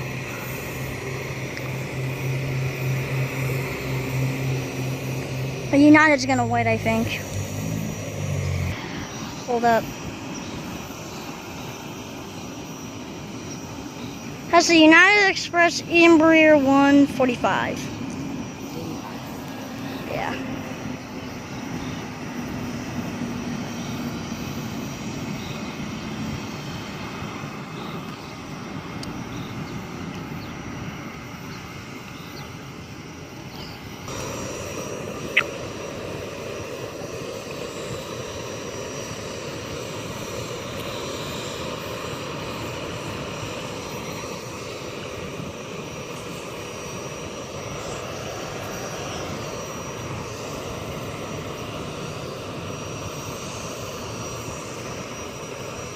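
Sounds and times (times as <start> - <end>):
distant jet engines rushing: 0.0 - 55.9.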